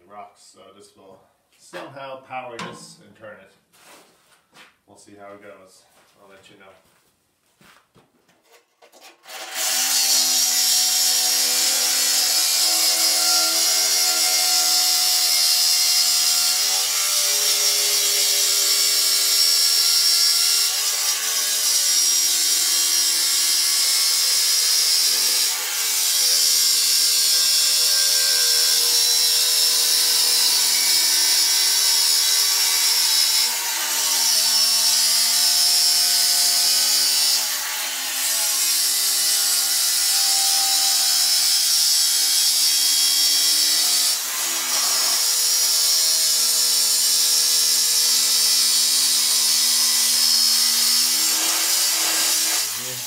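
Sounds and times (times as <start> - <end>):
angle grinder cutting steel: 9.2 - 53.0.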